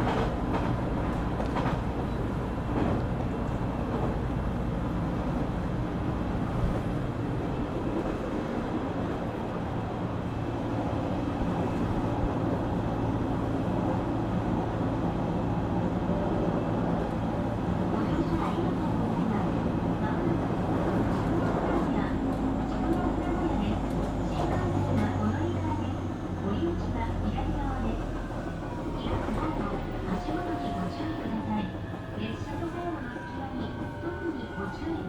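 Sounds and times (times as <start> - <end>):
train cabin rumble and hum: 0.0 - 35.0.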